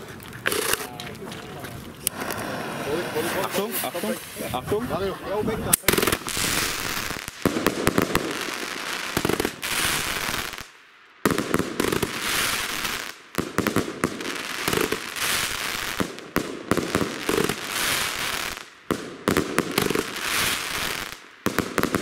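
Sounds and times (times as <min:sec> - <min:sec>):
crackling firework stars: 0:00.0 - 0:04.9, 0:05.6 - 0:22.0.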